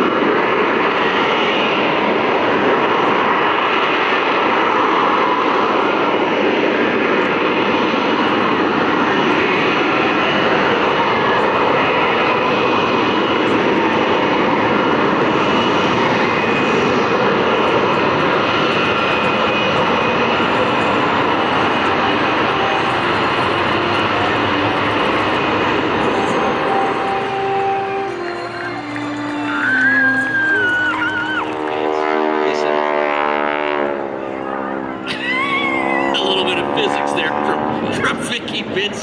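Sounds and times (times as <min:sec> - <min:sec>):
propeller airplane engine: 0:00.0 - 0:32.3.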